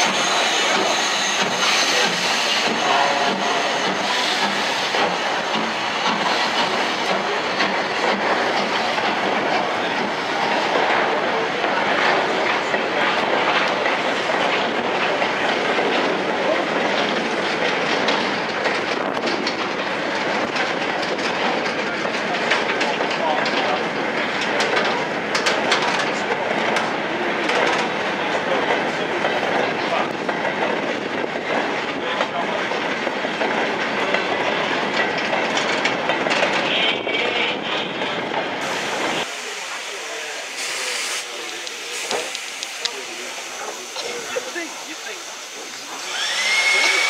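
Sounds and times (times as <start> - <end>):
wheels clanking over rail joints: 0.0 - 39.3
rumble of wheels on rail: 0.0 - 47.0.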